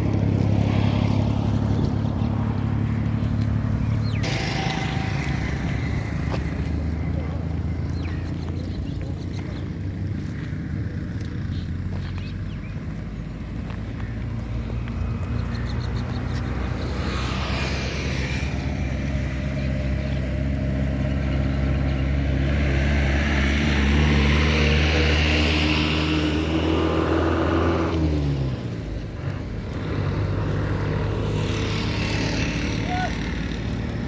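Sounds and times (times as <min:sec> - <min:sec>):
vehicle engine humming: 0:00.0 - 0:34.0.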